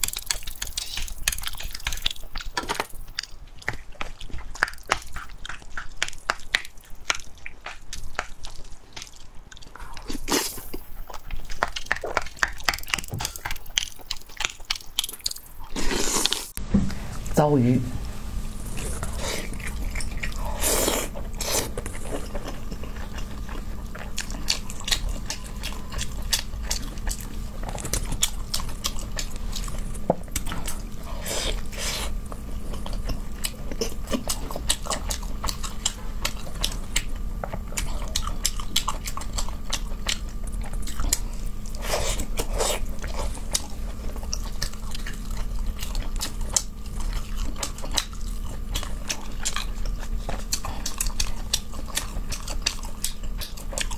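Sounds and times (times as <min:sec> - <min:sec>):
person chewing with lip smacks: 0:00.0 - 0:16.6, 0:18.7 - 0:53.9
faint steady hum: 0:00.0 - 0:53.9.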